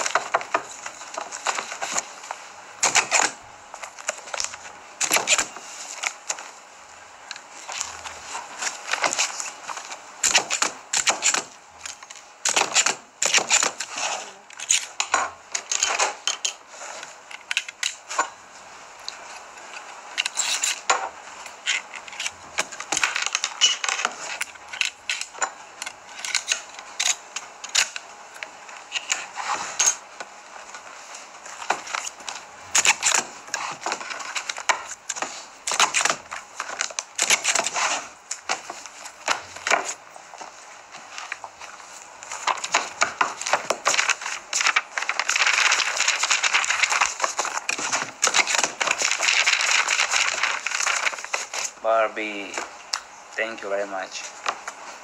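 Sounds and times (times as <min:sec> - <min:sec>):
paper rustling and shuffling: 0:00.0 - 0:55.0.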